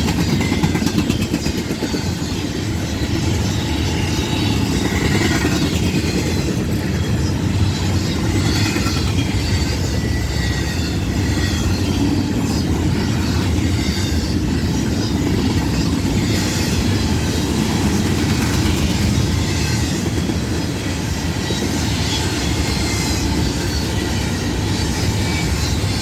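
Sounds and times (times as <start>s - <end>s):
train wheels rumbling on rails: 0.0s - 26.0s
faint high wheel squeal: 1.6s - 26.0s.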